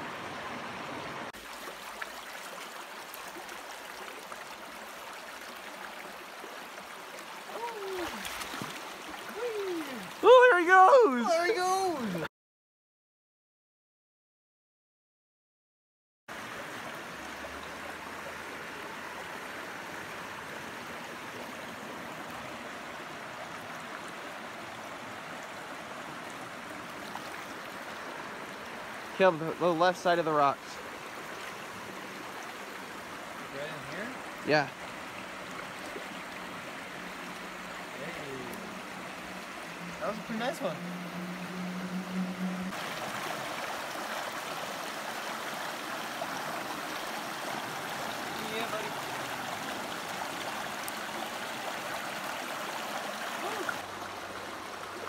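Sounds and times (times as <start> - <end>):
creek water running over rocks: 0.0 - 12.3, 16.3 - 55.0.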